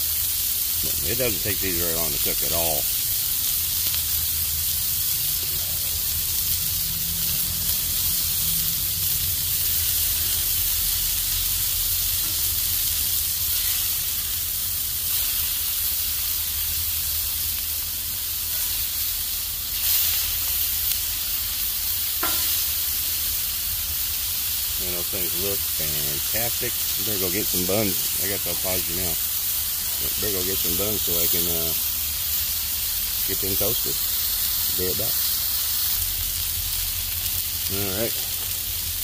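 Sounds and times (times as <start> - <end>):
patties and onions sizzling on griddle: 0.0 - 39.0.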